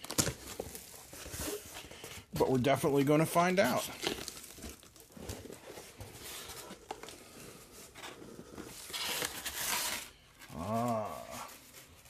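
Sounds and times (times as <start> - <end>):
cardboard and foam rustling: 0.0 - 12.0.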